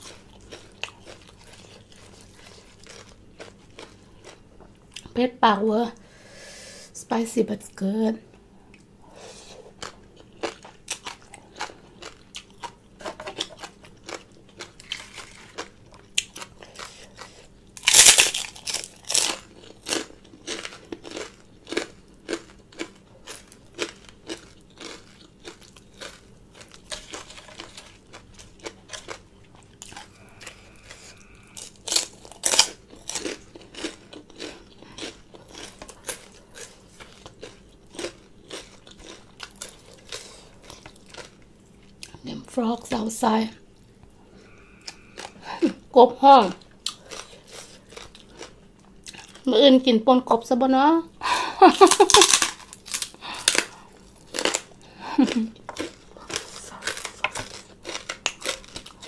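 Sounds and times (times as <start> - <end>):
crunchy chewing: 0.0 - 5.1, 8.7 - 42.2, 43.7 - 45.5, 46.5 - 49.5, 51.8 - 59.0.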